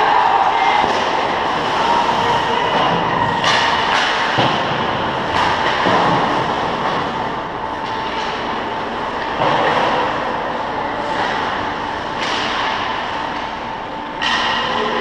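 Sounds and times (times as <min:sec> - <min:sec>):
hockey sticks and puck clacking: 0:00.0 - 0:15.0
steady rink hum: 0:00.0 - 0:15.0.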